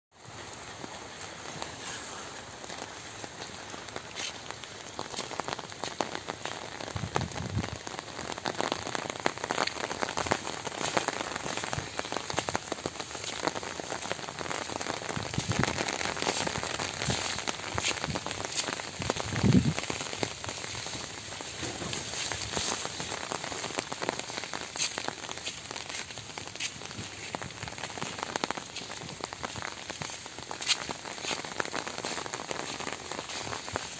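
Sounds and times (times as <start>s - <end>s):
rain pattering on leaves: 0.1s - 33.9s.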